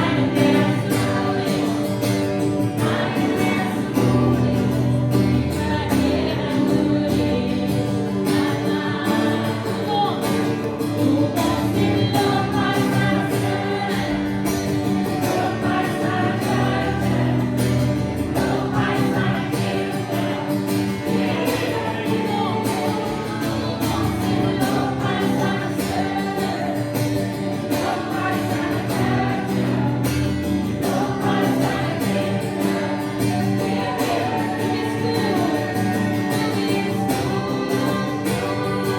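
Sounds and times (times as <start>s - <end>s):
group singing praise song: 0.0s - 38.9s.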